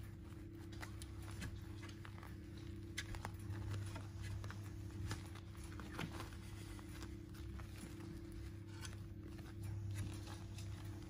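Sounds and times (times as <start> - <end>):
paws scratching on bedding: 0.0 - 11.0
steady low hum: 0.0 - 11.0.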